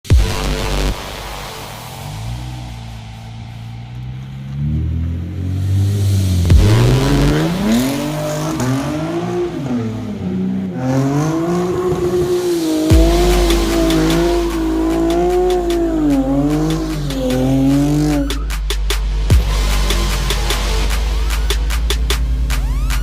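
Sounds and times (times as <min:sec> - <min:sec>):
background music with deep bass: 0:00.0 - 0:23.0
car engine revving: 0:00.0 - 0:23.0.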